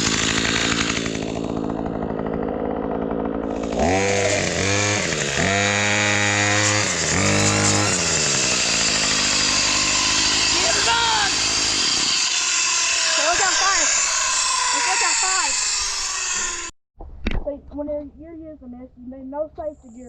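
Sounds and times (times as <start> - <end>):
weed trimmer engine revving: 0.0 - 16.7.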